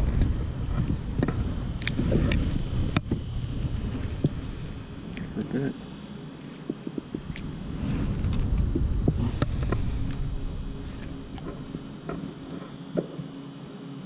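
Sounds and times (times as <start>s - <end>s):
wind rumbling on microphone: 0.0s - 12.8s.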